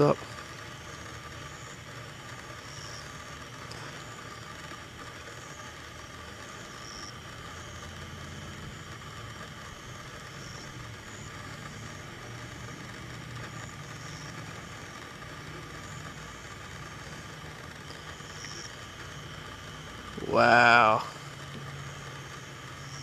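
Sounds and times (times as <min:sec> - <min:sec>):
constant low hum: 0:00.0 - 0:23.0.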